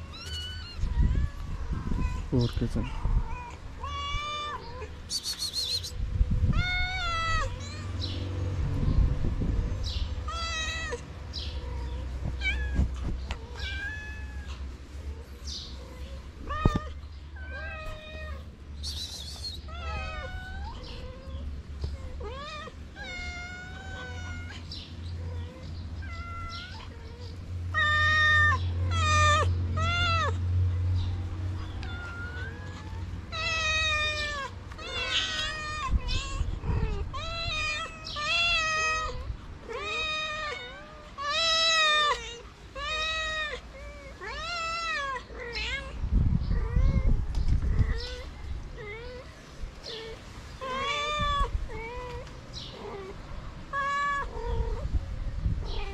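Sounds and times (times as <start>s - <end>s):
cats and kittens meowing: 0.0s - 55.9s.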